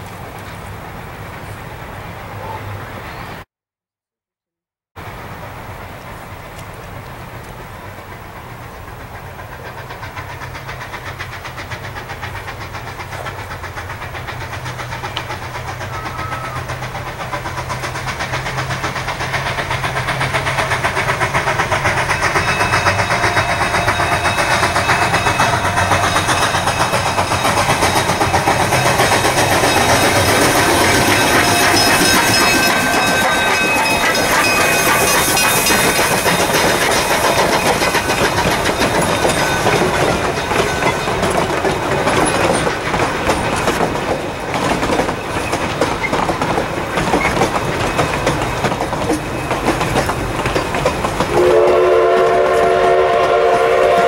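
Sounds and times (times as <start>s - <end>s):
steam locomotive passing: 0.0s - 3.5s, 5.0s - 54.0s
steam hissing: 5.0s - 54.0s
wheels clattering on rails: 5.0s - 54.0s.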